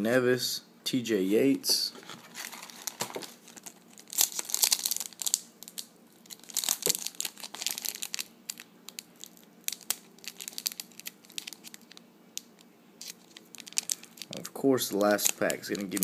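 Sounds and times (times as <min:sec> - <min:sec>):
foil wrapper crinkling and tearing: 0:02.1 - 0:16.0.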